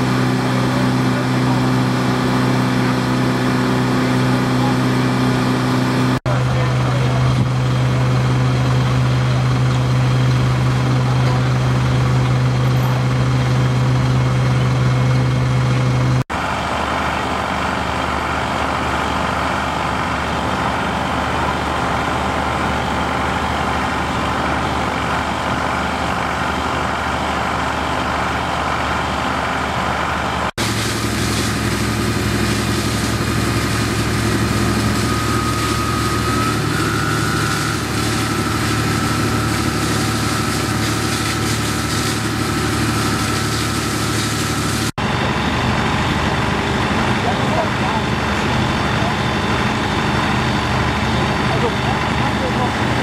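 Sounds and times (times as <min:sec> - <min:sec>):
pump engines droning: 0:00.0 - 0:53.0.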